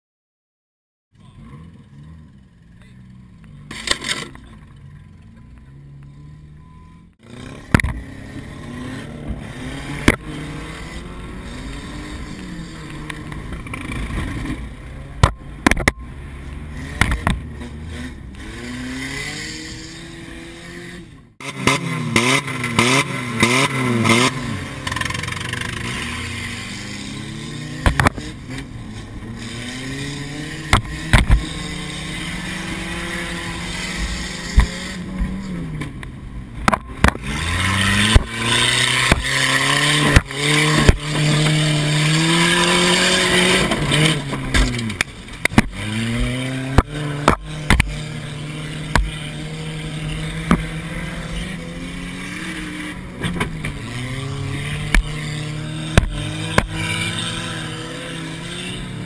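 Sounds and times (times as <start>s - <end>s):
car engine revving: 1.2s - 59.0s.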